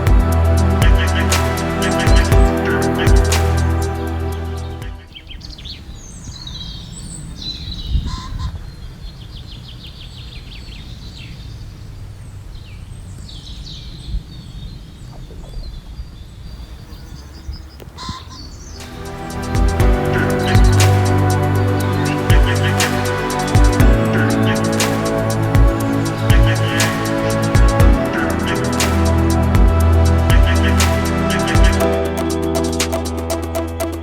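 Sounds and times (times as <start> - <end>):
small birds chirping: 0.0 - 31.8.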